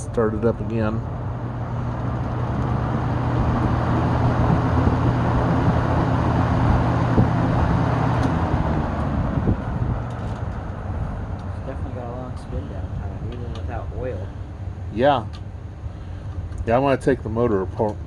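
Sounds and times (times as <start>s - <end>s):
box fan air rush: 0.0s - 18.0s
fan motor hum: 0.0s - 18.0s.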